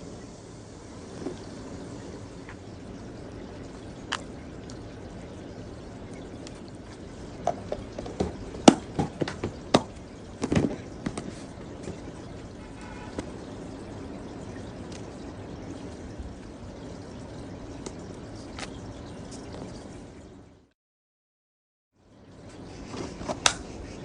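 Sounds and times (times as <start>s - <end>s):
steady hiss: 0.0s - 20.2s.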